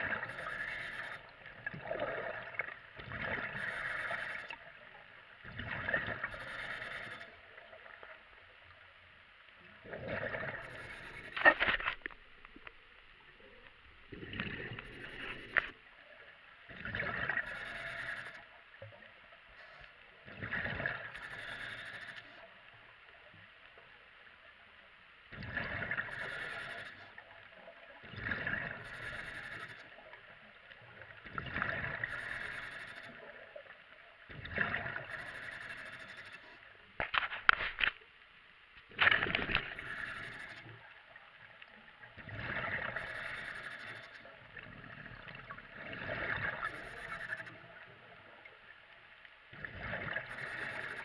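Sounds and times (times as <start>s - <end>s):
underwater exhaled bubbles gurgling: 0.0s - 8.8s, 9.6s - 19.3s, 20.1s - 21.9s, 25.3s - 36.7s, 38.9s - 48.8s, 49.4s - 51.0s.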